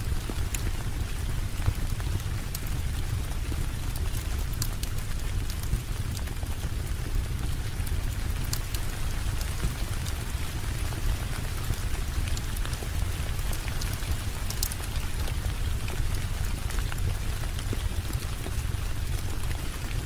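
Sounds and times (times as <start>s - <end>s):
steady rainfall: 0.0s - 20.0s
wood fire crackling and popping: 0.0s - 20.0s.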